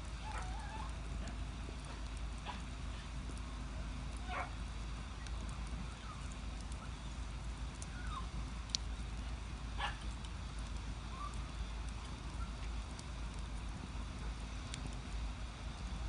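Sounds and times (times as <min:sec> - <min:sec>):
fire low rumble: 0:00.0 - 0:16.0
fire popping: 0:00.0 - 0:16.0
wood fire crackling: 0:00.0 - 0:16.0.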